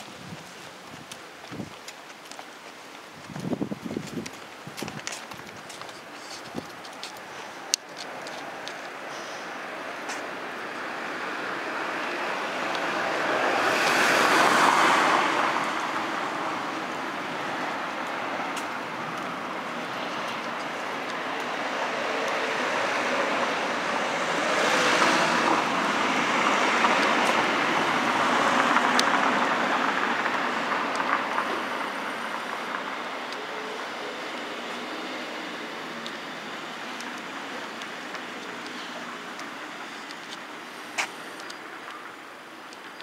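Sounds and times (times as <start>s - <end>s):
cars passing: 0.0s - 43.0s
street traffic rush: 0.0s - 43.0s.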